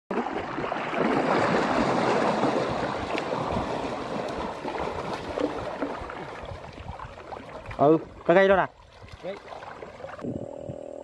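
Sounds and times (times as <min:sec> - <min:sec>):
water splashing and churning: 0:00.1 - 0:10.2.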